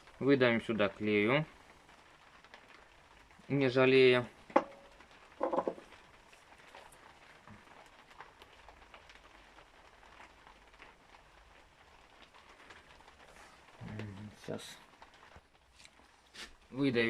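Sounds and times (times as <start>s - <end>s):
small clicks and rustles: 1.5s - 3.5s, 4.4s - 16.7s.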